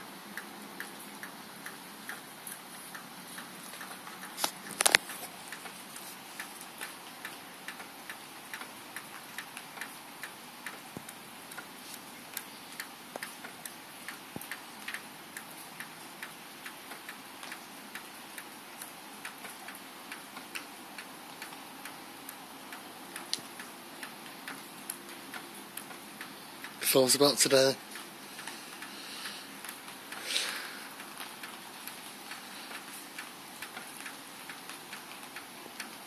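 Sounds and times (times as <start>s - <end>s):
faint steady hiss: 0.0s - 36.0s
light sharp ticking: 0.3s - 36.0s.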